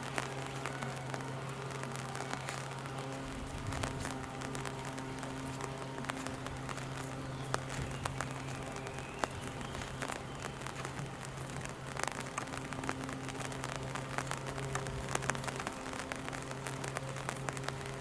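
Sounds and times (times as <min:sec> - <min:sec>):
constant low hum: 0:00.0 - 0:18.0
steady rain falling: 0:00.0 - 0:18.0.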